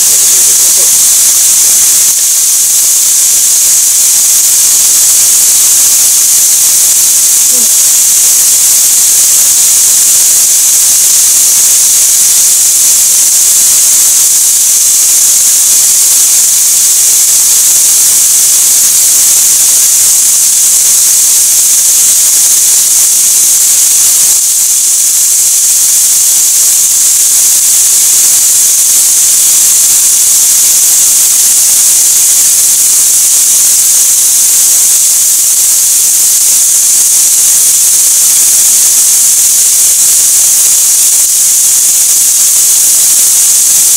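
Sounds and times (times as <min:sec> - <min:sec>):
chicken sizzling in a frying pan: 0:00.0 - 0:43.9.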